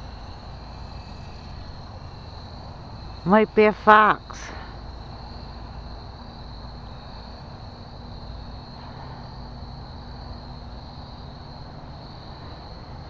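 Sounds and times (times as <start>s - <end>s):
crickets chirring: 0.0s - 13.0s
low background rumble: 0.0s - 13.0s.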